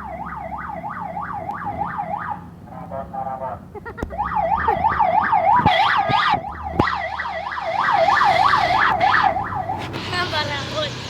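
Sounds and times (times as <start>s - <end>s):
siren yelping: 0.0s - 10.1s.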